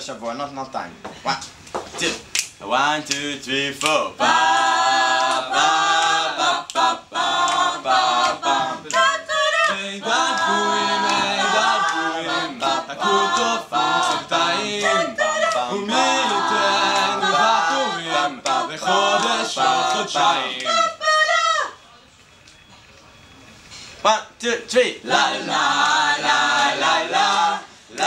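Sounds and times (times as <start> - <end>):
a cappella group singing: 2.6 - 21.8, 24.7 - 28.0.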